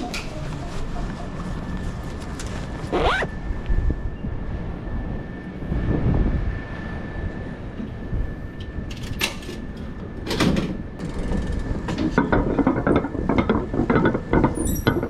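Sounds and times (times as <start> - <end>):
faint steady whine: 0.0 - 15.0
vehicle rumble: 0.0 - 15.0.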